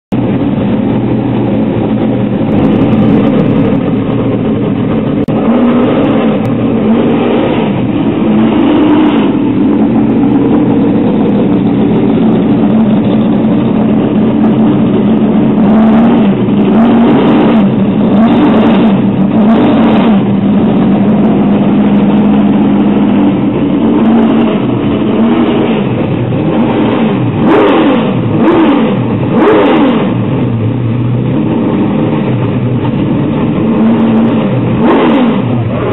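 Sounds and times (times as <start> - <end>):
car engine revving: 0.1 - 35.9.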